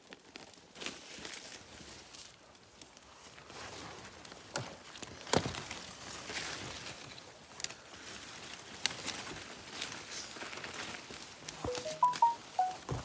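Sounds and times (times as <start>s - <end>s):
rustling in undergrowth: 0.0s - 13.0s.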